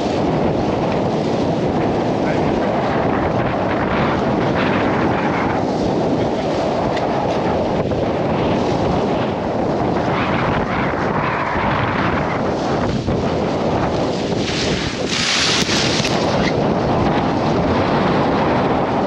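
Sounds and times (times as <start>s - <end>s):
waves hissing along a hull: 0.0s - 19.0s
wind buffeting microphone: 0.0s - 19.0s.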